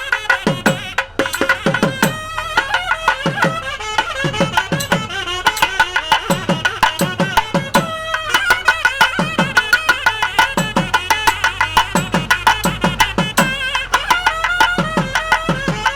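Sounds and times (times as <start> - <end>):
hand drum beat: 0.0 - 15.9
reed wind instrument melody: 0.0 - 15.9.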